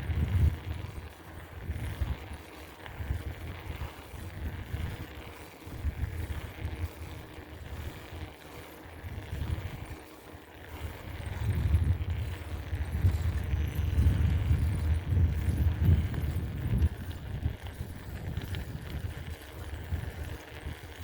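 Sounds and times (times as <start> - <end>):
bicycle riding rumble: 0.0 - 21.0.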